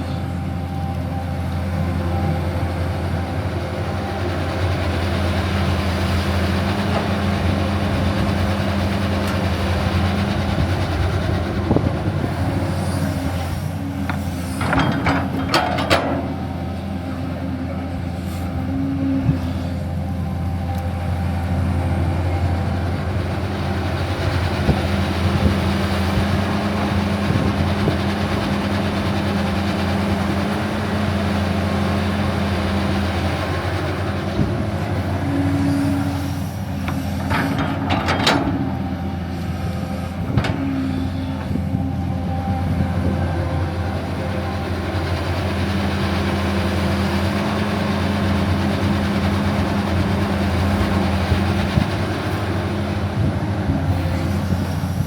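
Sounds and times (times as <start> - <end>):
heavy machinery engine droning: 0.0 - 55.0.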